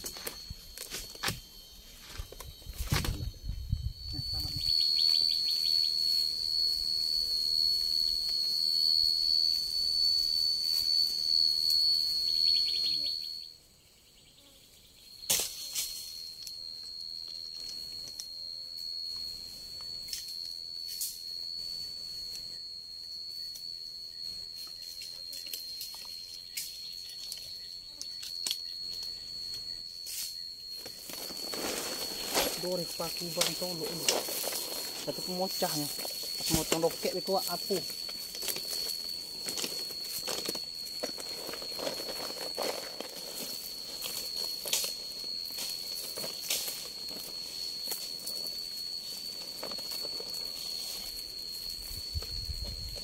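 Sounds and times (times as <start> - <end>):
insect high-pitched trill: 0.0 - 53.0.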